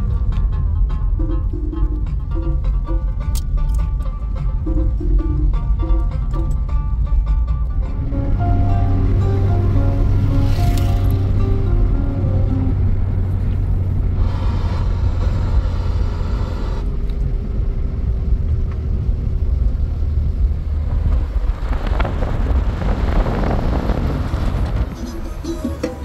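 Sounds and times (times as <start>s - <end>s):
vehicle rumbling: 0.0s - 26.0s.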